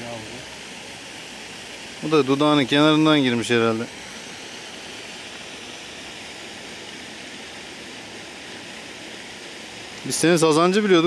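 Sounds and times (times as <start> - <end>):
rushing hiss of outdoor ambience: 0.0 - 11.0.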